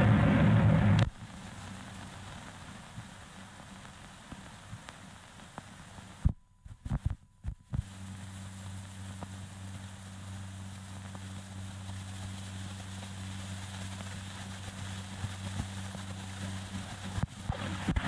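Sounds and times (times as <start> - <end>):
film soundtrack hiss and crackle: 0.0 - 18.0
steady low hum: 0.0 - 18.0.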